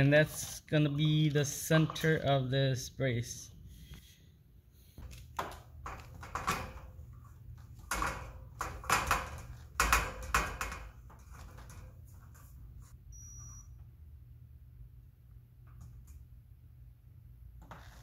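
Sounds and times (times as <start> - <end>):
faint steady hum: 0.1 - 18.0.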